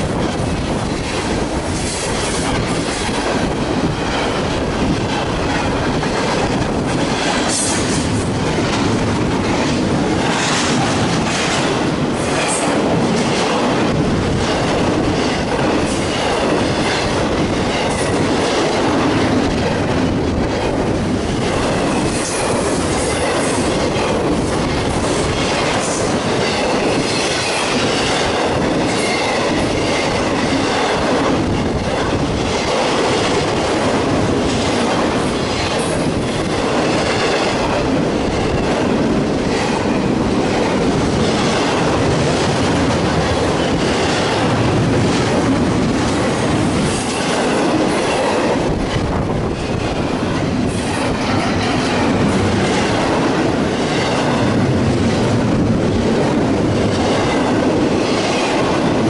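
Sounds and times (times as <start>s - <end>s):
steel train wheels on rail: 0.0s - 59.0s.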